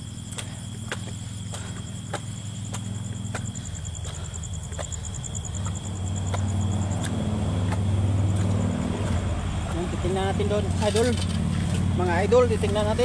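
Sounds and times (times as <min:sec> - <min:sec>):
footsteps on concrete steps: 0:00.0 - 0:13.0
night insects buzzing and trilling: 0:00.0 - 0:13.0
vehicle engine hum: 0:00.0 - 0:13.0.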